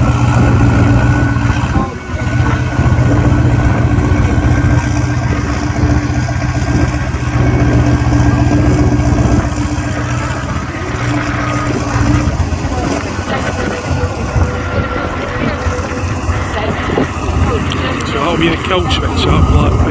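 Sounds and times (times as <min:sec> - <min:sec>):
tractor engine idling: 0:00.0 - 0:19.9.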